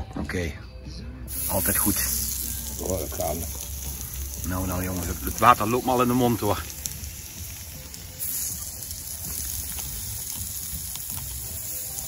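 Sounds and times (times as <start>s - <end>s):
fire crackling: 1.3s - 12.0s
meat sizzling on hot plate: 1.3s - 12.0s.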